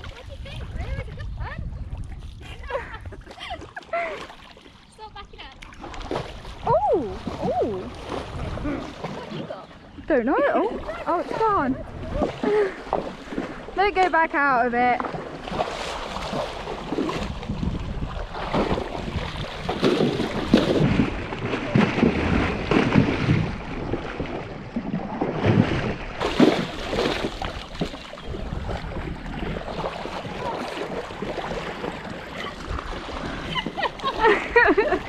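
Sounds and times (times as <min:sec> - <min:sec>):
pony splashing through water: 0:00.0 - 0:02.4, 0:03.2 - 0:35.0
wind buffeting microphone: 0:00.0 - 0:04.2, 0:04.9 - 0:35.0.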